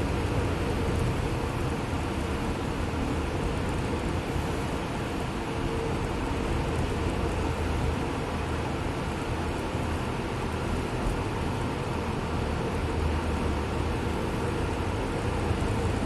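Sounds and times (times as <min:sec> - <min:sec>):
bus engine rumble: 0:00.0 - 0:16.0
road and tyre noise: 0:00.0 - 0:16.0.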